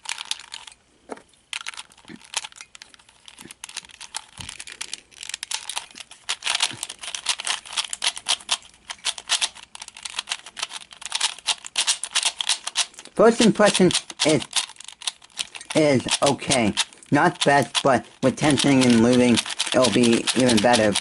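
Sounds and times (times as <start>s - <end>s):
puzzle cube clicking as turned: 0.0s - 0.7s, 1.5s - 21.0s.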